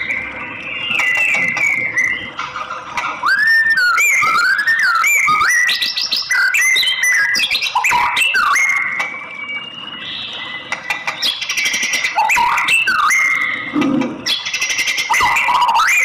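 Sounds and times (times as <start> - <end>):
bird singing whistled notes: 0.0 - 2.4, 3.2 - 16.0.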